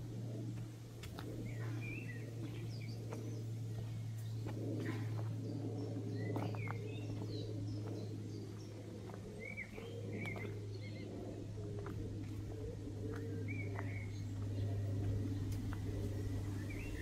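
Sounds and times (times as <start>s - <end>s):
low hum: 0.0s - 17.0s
small birds chirping: 0.0s - 17.0s.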